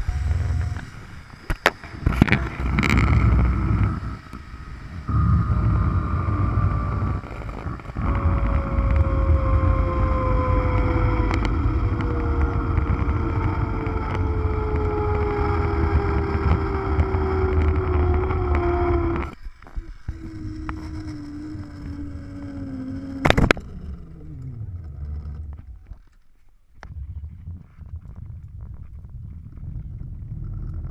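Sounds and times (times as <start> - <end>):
wind rumble on microphone: 0.0 - 26.2, 26.8 - 30.9
zipline pulleys whining on cable: 0.0 - 26.3.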